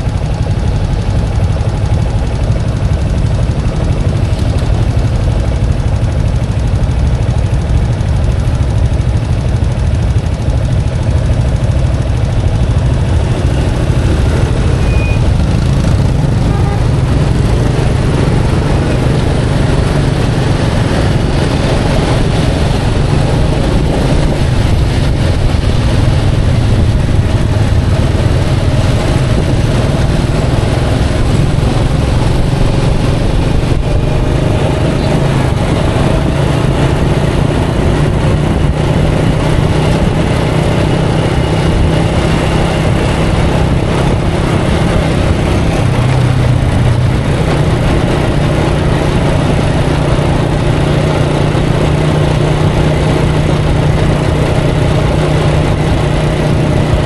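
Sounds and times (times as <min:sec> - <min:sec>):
road noise: 0:00.0 - 0:57.0
traffic engine hum: 0:00.0 - 0:57.0.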